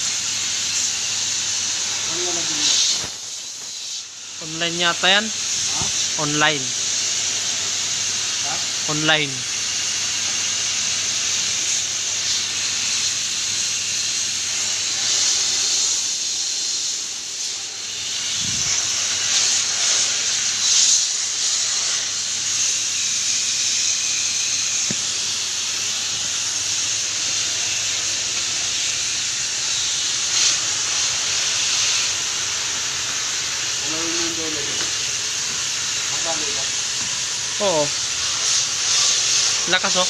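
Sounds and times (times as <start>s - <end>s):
high-pressure water spray hissing: 0.0s - 40.0s.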